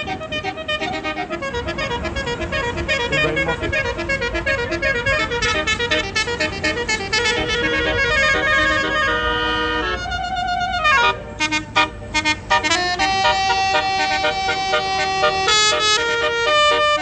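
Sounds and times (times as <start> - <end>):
bus horn playing a melody: 0.0 - 17.0.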